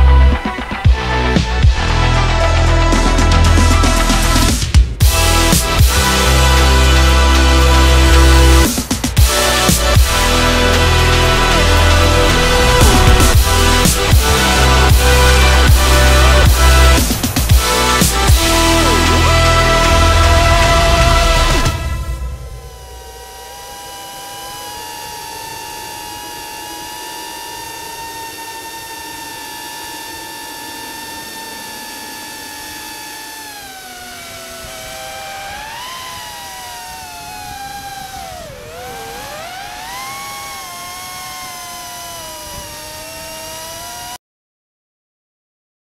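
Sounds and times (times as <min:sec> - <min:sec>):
drone motors whining: 0:00.0 - 0:44.2.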